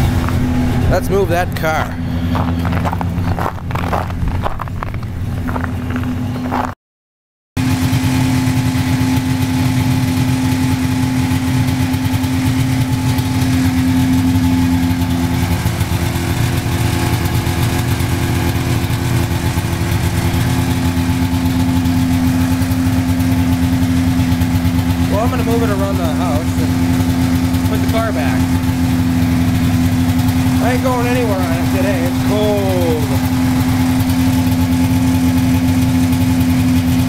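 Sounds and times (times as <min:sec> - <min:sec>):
car engine idling: 0:00.0 - 0:06.7, 0:07.6 - 0:37.0.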